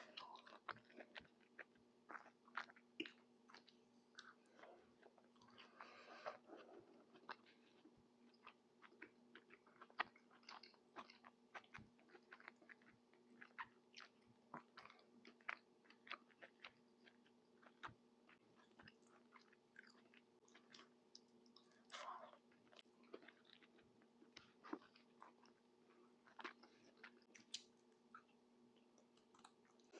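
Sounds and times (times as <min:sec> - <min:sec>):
chewing and mouth sounds: 0:00.0 - 0:29.9
faint steady hum: 0:00.0 - 0:29.9.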